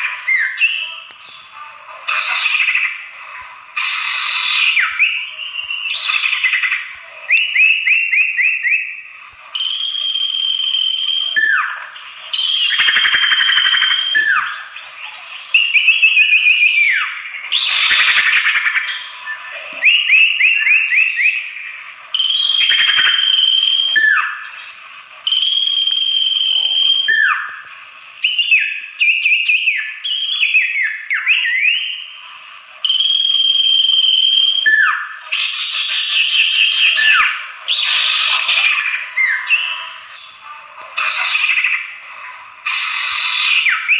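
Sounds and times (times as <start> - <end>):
bird whistles and chirps: 0.0 - 1.5, 2.1 - 3.1, 3.8 - 40.4, 41.0 - 42.0, 42.7 - 43.9
harsh scolding bird chatter: 0.0 - 33.1, 33.8 - 43.9.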